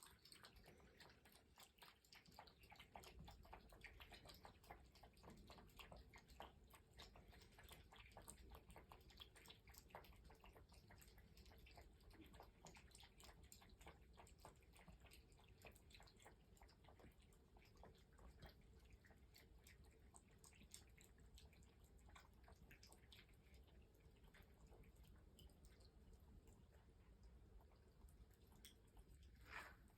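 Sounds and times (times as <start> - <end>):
cats chewing food: 0.0 - 29.9.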